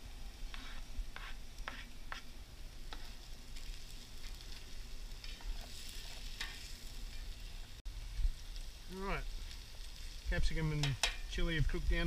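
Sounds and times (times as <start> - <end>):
pan sizzling: 0.0 - 12.0.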